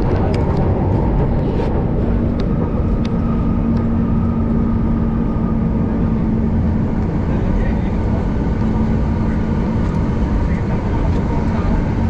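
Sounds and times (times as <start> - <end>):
high-pitched train whine: 0.0 - 12.0
train rumble and hum: 0.0 - 12.0.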